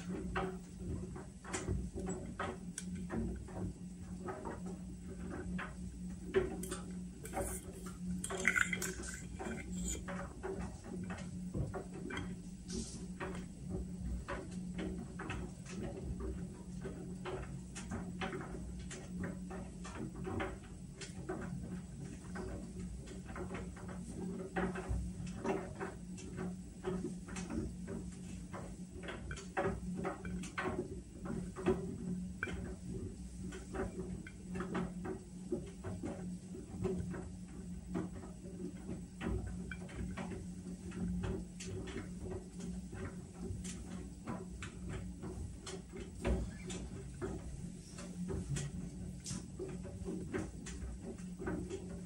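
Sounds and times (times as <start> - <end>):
washing machine humming: 0.0 - 52.0.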